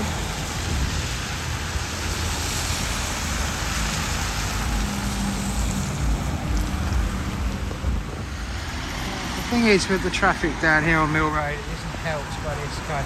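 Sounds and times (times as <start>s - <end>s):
rain falling: 0.0s - 13.0s
road traffic rumble: 0.0s - 13.0s.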